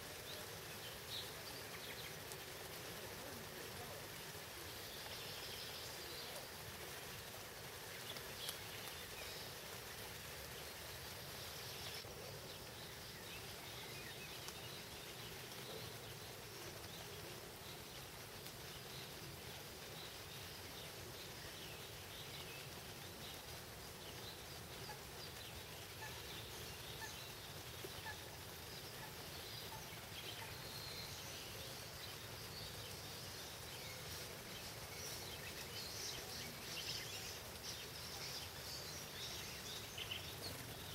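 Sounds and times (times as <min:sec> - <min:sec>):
light rain: 0:00.0 - 0:40.9.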